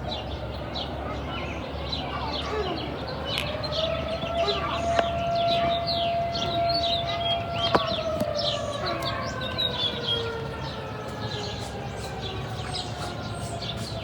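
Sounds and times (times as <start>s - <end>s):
small birds chirping: 0.0s - 14.0s
warning siren steady tone: 0.0s - 14.0s.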